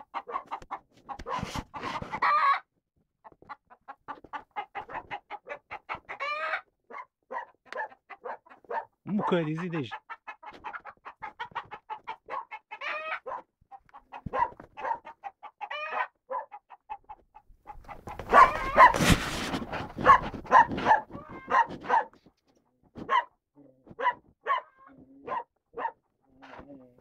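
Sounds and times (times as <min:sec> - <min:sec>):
chicken squawks: 0:00.0 - 0:02.7, 0:03.6 - 0:22.2, 0:24.0 - 0:26.8
chickens clucking: 0:00.0 - 0:27.0.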